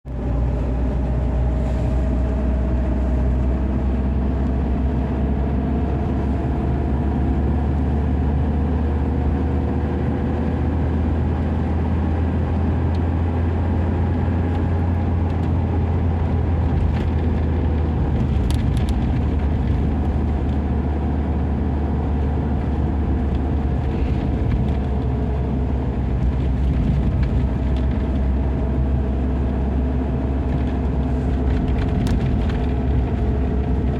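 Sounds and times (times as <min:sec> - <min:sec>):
car engine and road rumble: 0:00.0 - 0:33.9.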